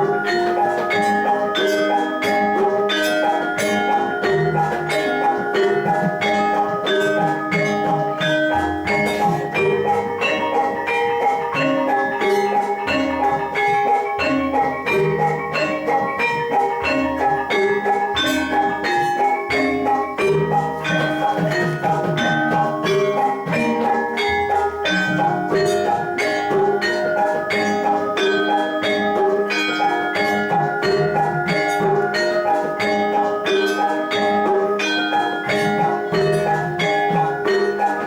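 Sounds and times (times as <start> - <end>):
gamelan metallophones and gong-chimes: 0.0 - 38.0.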